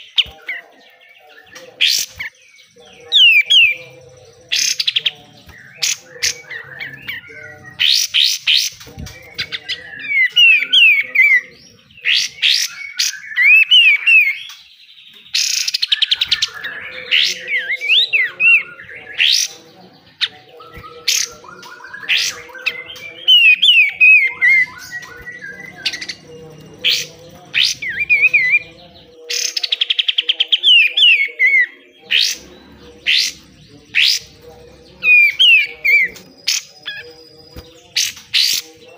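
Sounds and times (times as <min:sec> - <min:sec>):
songbird singing rattling song: 0:00.0 - 0:38.9.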